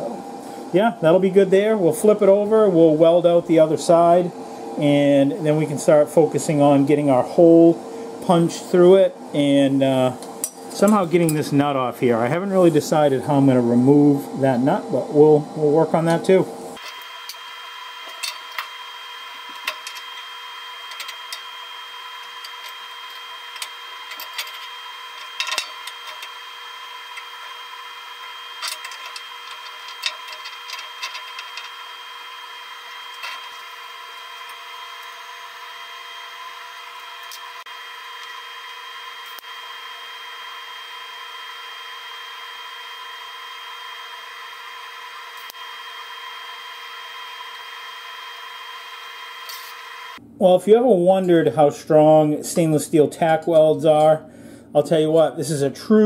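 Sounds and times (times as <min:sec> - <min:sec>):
steady tonal whine: 0:00.0 - 0:51.5.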